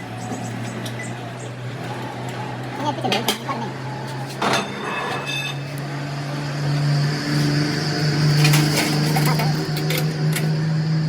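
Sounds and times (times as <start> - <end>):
workshop machine humming: 0.0 - 11.0.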